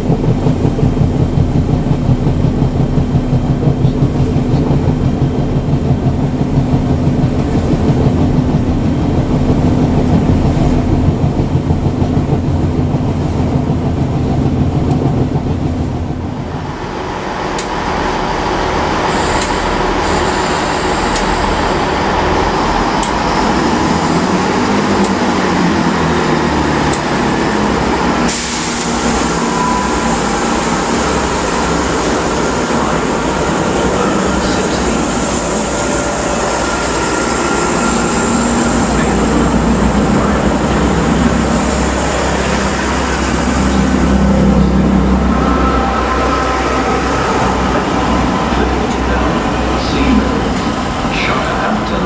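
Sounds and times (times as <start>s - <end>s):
diesel train running at platform: 0.0s - 52.0s
train moving off: 0.0s - 52.0s
train running rumble inside carriage: 0.0s - 52.0s.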